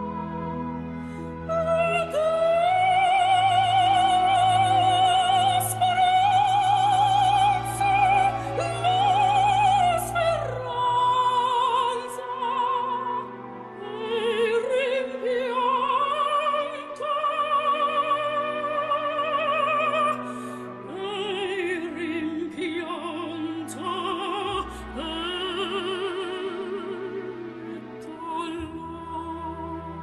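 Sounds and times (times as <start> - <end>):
low sustained accompaniment: 0.0 - 30.0
operatic singing voice: 0.0 - 30.0.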